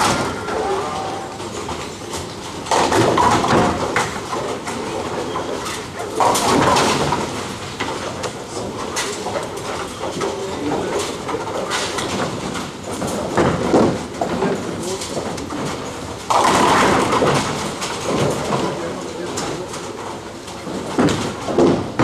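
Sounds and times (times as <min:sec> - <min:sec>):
bowling balls rolling: 0:00.0 - 0:22.0.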